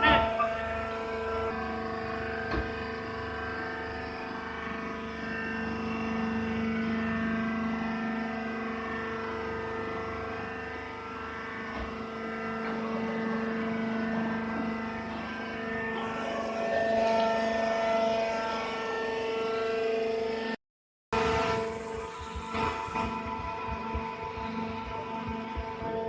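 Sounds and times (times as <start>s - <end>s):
hydraulic baler motor humming: 0.0s - 20.5s, 21.2s - 26.0s.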